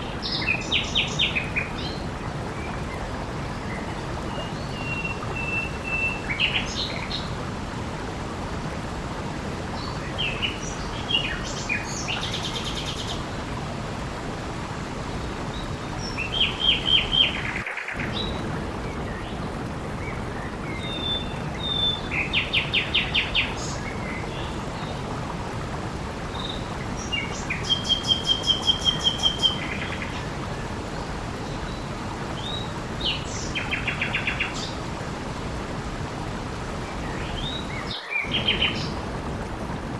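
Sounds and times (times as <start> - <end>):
songbirds singing: 0.0 - 8.0, 8.6 - 25.6, 26.2 - 39.2
water hiss: 0.0 - 39.9.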